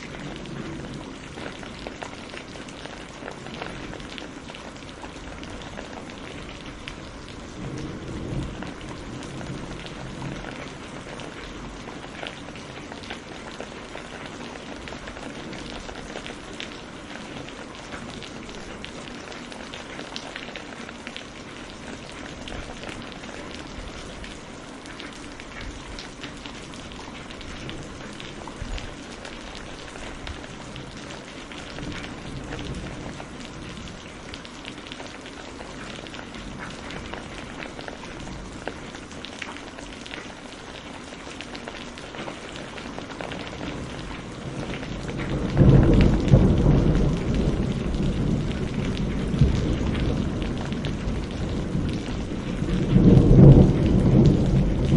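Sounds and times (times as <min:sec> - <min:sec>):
low rumble of thunder: 0:00.0 - 0:24.6, 0:25.2 - 0:39.3, 0:41.5 - 0:54.9
raindrop hits: 0:00.0 - 0:54.9
steady rain falling: 0:00.0 - 0:54.9.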